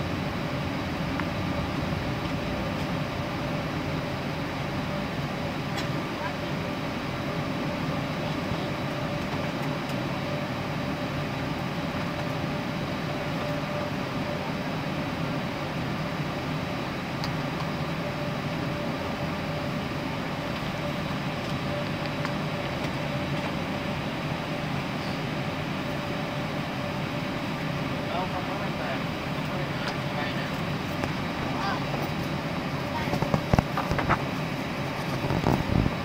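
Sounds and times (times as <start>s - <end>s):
airliner cabin hum: 0.0s - 36.0s.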